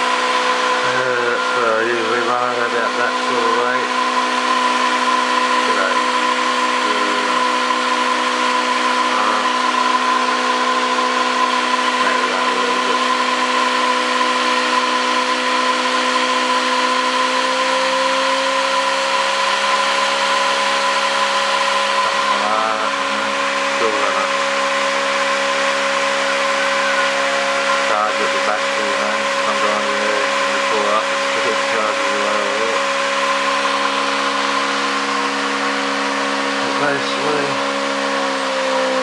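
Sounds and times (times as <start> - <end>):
motor whirring hum: 0.0 - 39.0.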